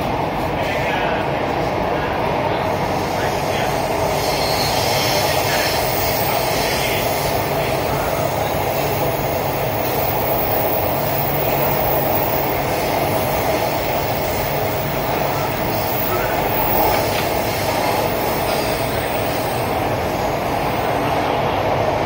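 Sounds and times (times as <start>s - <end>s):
train rolling along rails: 0.0s - 22.0s.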